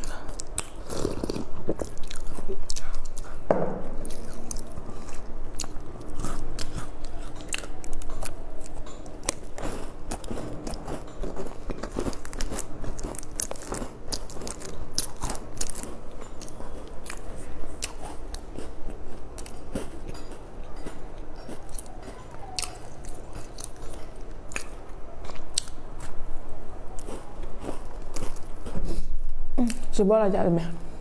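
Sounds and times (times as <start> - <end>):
chewing crisp food: 0.0 - 29.9.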